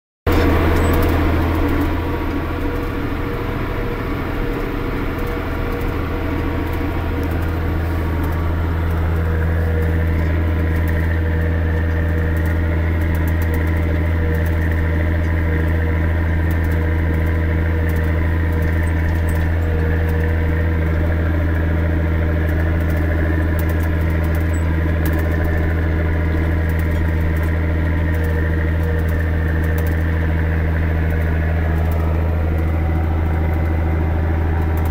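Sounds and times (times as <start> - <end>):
tractor diesel engine under load: 0.3 - 34.9.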